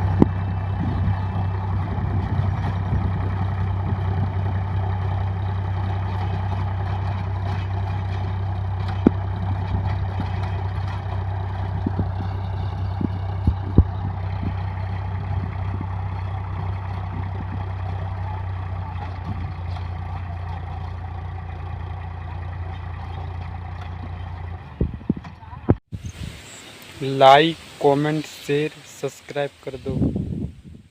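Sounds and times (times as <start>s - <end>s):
tractor engine running: 0.0s - 25.8s.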